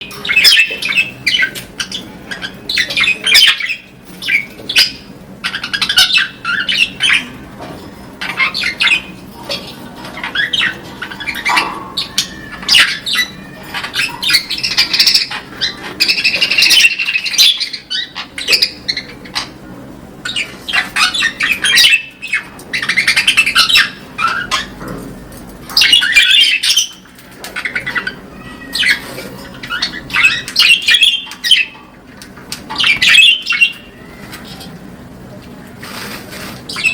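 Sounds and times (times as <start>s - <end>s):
budgerigars chattering: 0.0s - 7.4s, 8.2s - 19.6s, 20.2s - 24.8s, 25.7s - 31.9s, 32.7s - 34.7s, 36.4s - 36.9s.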